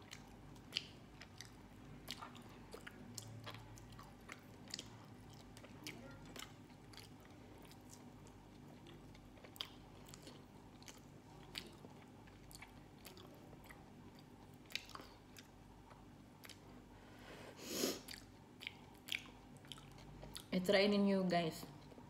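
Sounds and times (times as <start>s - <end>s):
person chewing food: 0.0s - 20.5s.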